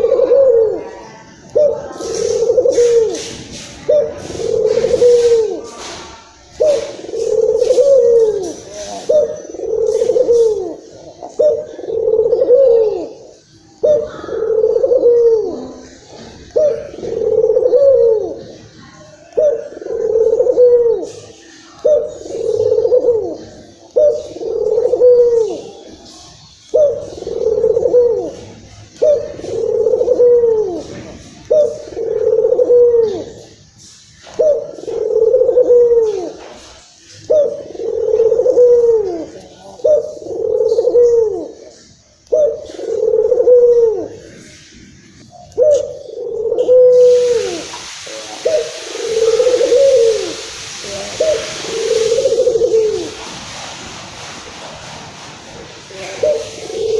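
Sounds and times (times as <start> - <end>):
dove cooing: 0.0 - 53.4, 55.8 - 56.9.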